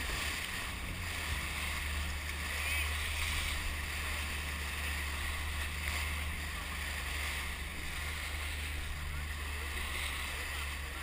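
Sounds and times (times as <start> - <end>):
low rumble: 0.0 - 11.0
river water rushing and splashing: 0.0 - 11.0.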